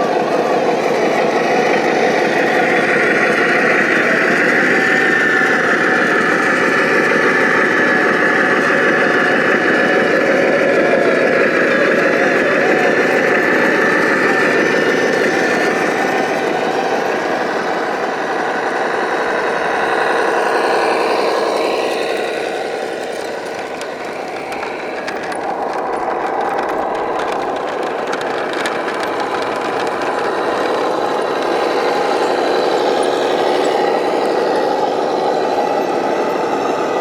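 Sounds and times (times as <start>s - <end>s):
electric motor and gears whining: 0.0s - 37.0s.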